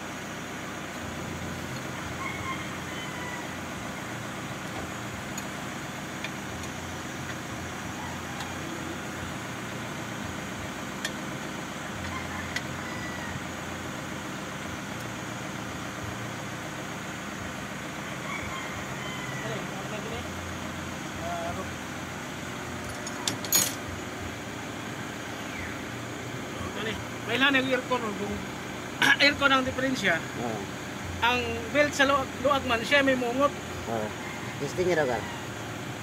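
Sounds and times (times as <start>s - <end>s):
diesel engine drone: 0.0s - 36.0s.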